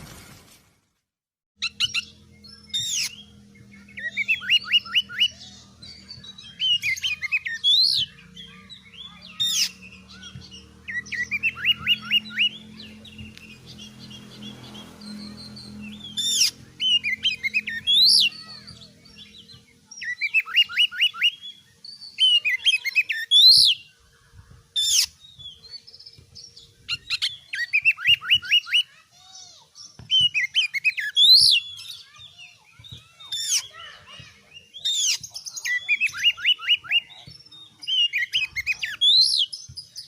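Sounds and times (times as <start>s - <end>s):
bird singing with high whistles: 1.6s - 24.0s, 24.8s - 29.0s, 29.8s - 40.0s.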